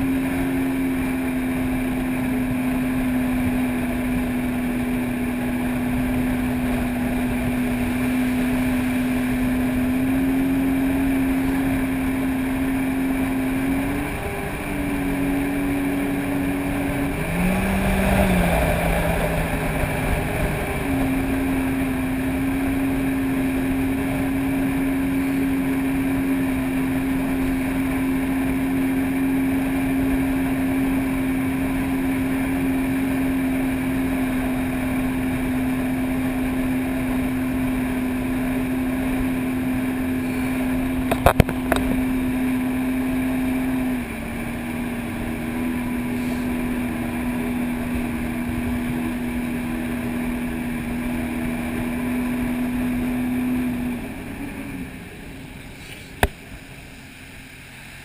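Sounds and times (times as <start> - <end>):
personal watercraft engine running: 0.0 - 58.0.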